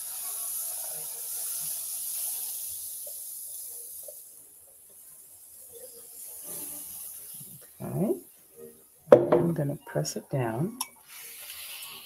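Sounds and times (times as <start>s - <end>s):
batter sizzling in waffle iron: 0.0s - 9.0s, 10.8s - 12.0s.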